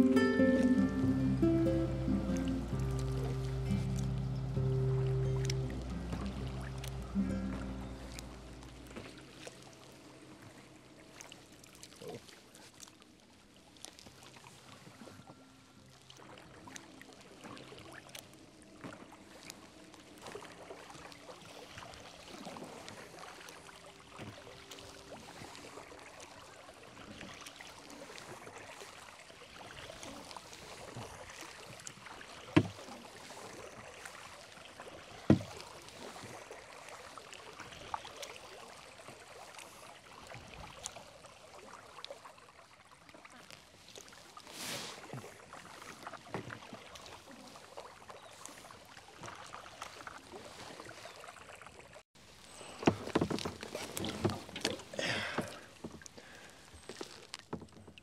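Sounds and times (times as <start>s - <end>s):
paddle strokes through water: 0.0s - 58.0s
water dripping and splashing: 0.0s - 58.0s.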